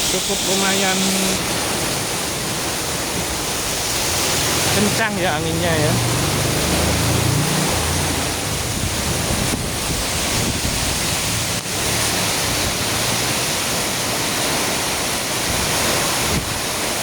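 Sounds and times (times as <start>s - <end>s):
wind buffeting microphone: 0.0s - 14.6s, 15.3s - 17.0s
rain and wind rushing: 0.0s - 17.0s.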